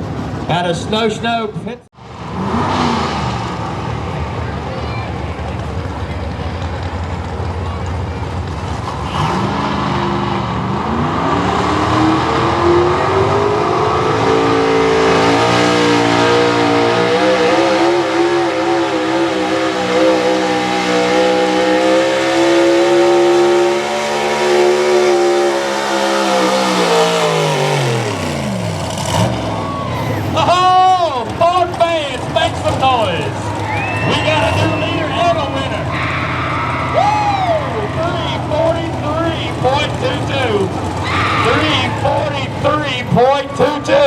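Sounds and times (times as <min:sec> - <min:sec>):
truck engine revving under load: 0:02.0 - 0:04.4, 0:05.5 - 0:36.8, 0:37.8 - 0:44.0.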